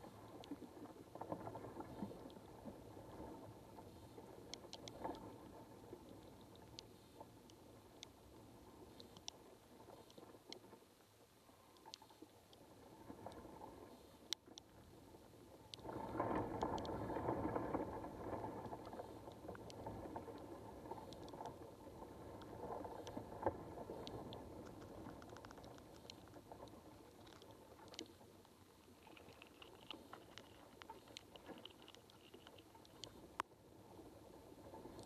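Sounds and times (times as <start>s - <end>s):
small clicks and ticks: 0.0s - 35.0s.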